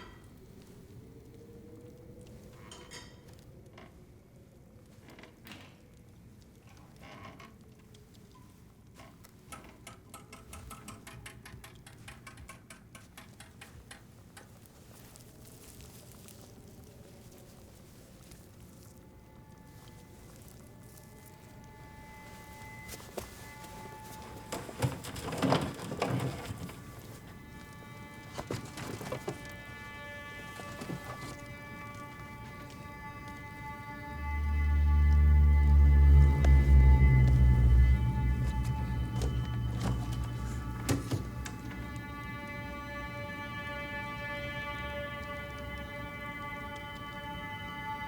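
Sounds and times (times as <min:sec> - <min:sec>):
quiet music drone: 0:00.0 - 0:48.0.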